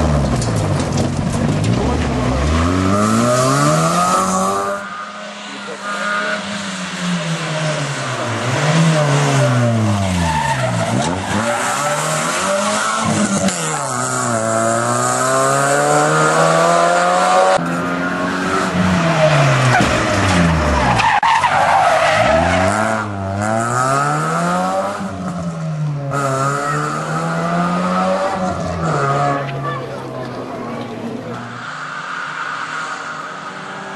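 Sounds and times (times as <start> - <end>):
rally car engine at full throttle: 0.0 - 33.9.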